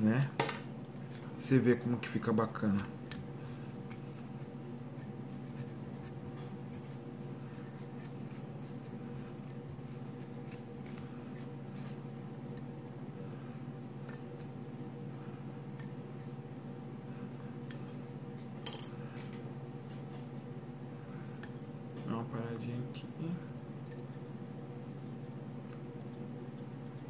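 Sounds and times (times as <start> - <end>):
background hum: 0.0 - 27.0.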